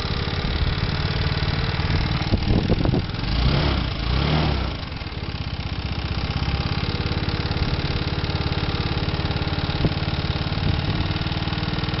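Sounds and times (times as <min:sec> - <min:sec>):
car engine idling with rattling: 0:00.0 - 0:12.0.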